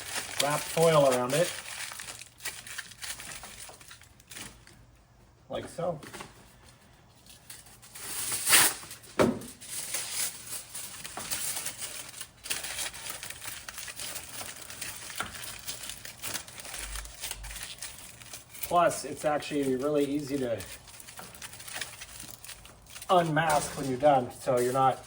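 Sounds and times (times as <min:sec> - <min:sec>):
aluminium foil crinkling: 0:00.0 - 0:05.1, 0:06.2 - 0:25.0.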